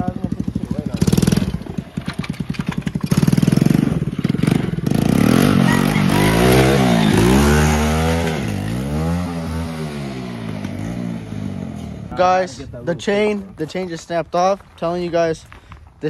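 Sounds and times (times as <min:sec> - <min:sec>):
atv engine revving: 0:00.0 - 0:13.4.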